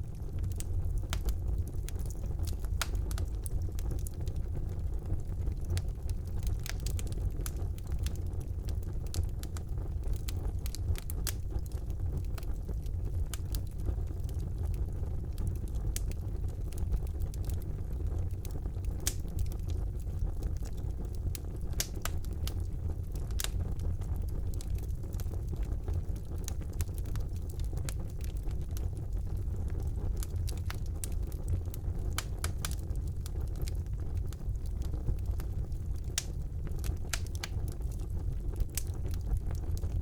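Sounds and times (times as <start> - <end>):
fire crackling and popping: 0.0 - 40.0
fire flames rumbling: 0.0 - 40.0.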